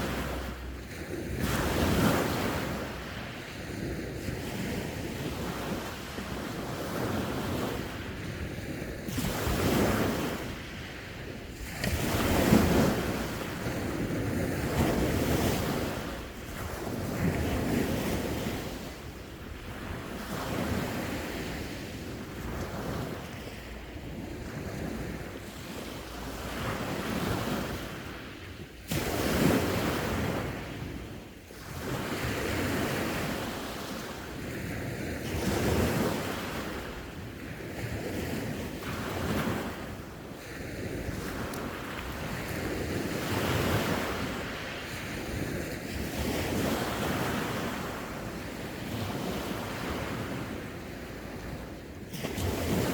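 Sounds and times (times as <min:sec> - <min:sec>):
sea waves breaking on shore: 0:00.0 - 0:52.9
wind buffeting microphone: 0:00.0 - 0:52.9.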